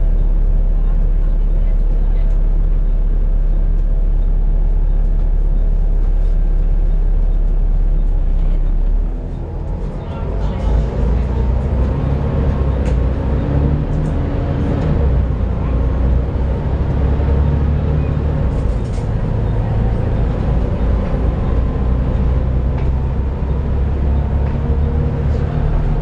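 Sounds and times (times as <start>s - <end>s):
diesel bus engine drone: 0.0s - 26.0s.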